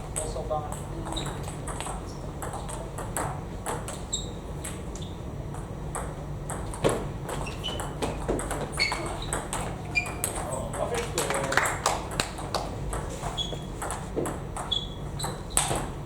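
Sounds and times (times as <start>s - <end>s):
steady low hum: 0.0s - 16.0s
table tennis balls clicking: 0.2s - 16.0s.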